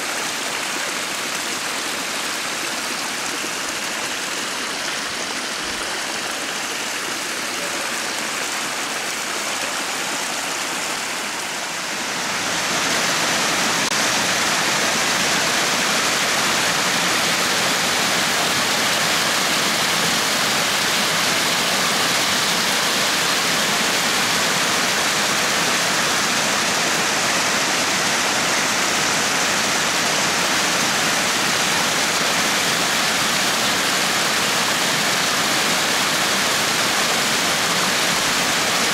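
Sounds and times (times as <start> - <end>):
shallow brook running: 0.0 - 38.9
small waterfall splashing into pool: 0.0 - 38.9.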